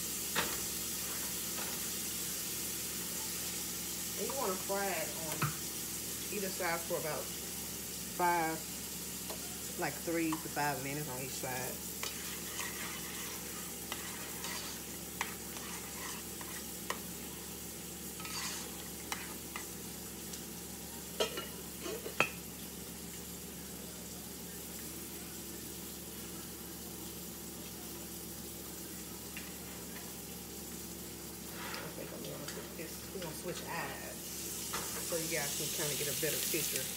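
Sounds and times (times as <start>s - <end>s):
fish sizzling in hot oil: 0.0s - 36.9s.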